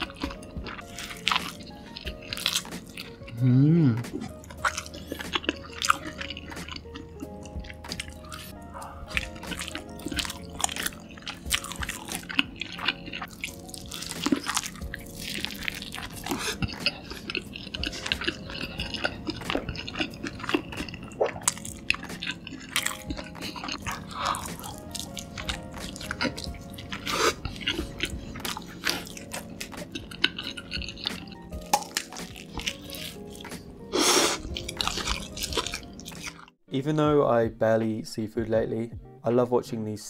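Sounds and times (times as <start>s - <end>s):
person chewing food: 0.0s - 36.6s
background music: 0.0s - 40.0s.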